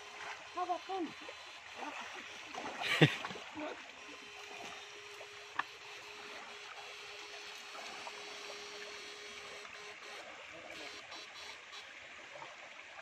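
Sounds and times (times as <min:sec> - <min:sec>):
faint steady hum: 0:00.0 - 0:13.0
water sloshing in river: 0:00.0 - 0:13.0.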